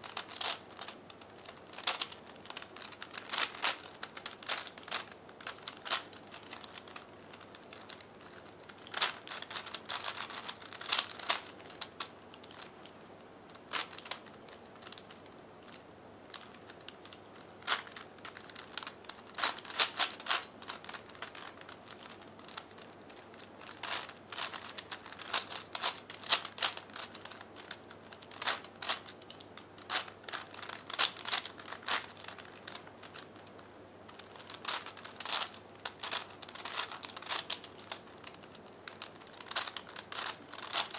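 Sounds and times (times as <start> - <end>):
puzzle cube clicking: 0.0 - 40.9.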